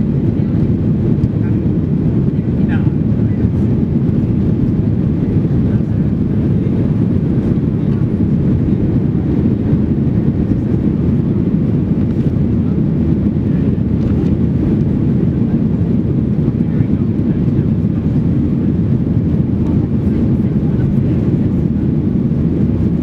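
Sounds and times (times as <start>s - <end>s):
jet engine drone in cabin: 0.0s - 23.0s.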